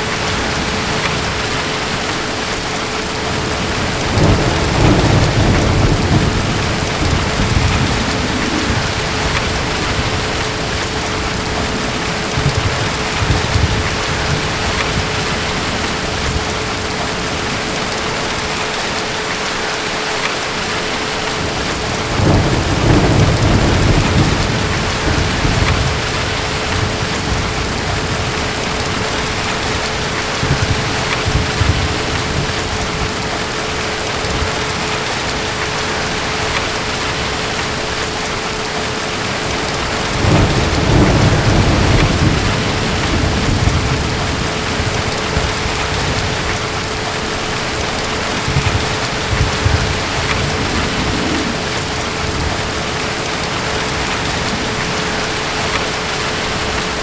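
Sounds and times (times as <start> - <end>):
distant thunder rumbling: 0.0 - 19.0, 21.3 - 57.0
heavy rain: 0.0 - 57.0.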